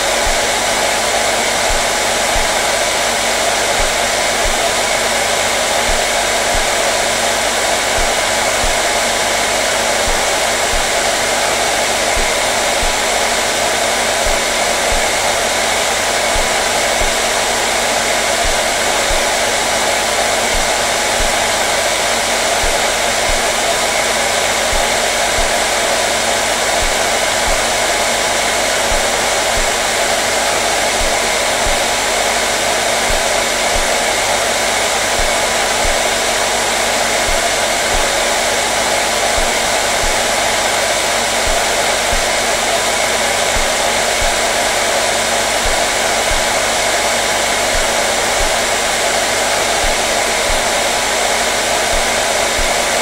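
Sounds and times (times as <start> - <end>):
hair dryer blowing: 0.0 - 53.0.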